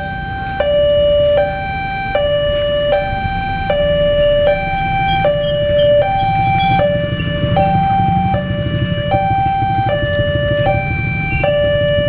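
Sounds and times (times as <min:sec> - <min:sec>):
two-tone level crossing alarm: 0:00.0 - 0:12.0.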